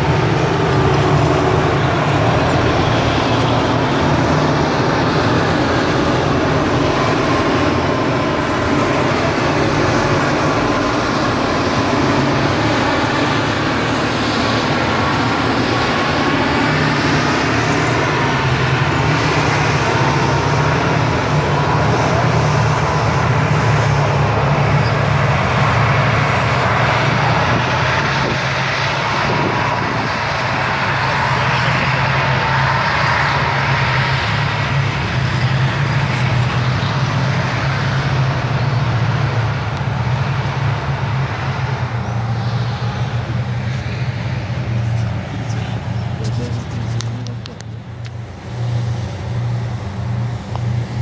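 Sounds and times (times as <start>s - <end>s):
tank engines and tracks: 0.0s - 51.0s.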